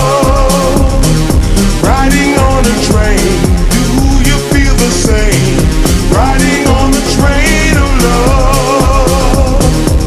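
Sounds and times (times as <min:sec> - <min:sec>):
slowed-down pop song: 0:00.0 - 0:10.0.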